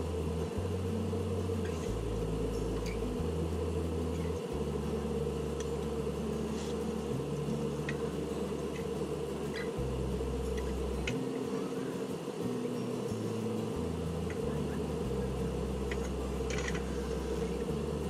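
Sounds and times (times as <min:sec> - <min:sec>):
machine hum with low rumble: 0:00.0 - 0:18.0.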